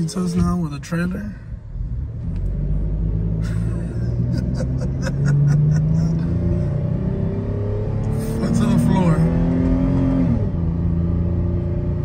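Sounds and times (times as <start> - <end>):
engine accelerating hard: 1.8 - 12.0.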